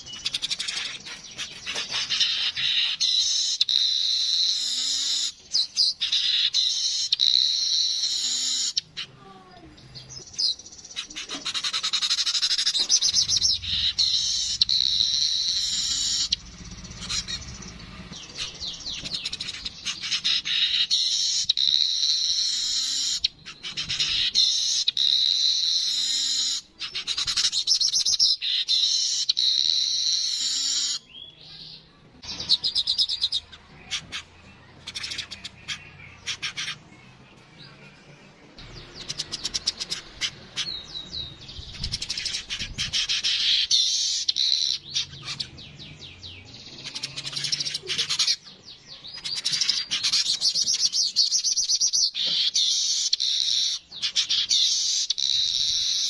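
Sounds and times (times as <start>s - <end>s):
bird singing buzzy chattering song: 0.0s - 56.0s.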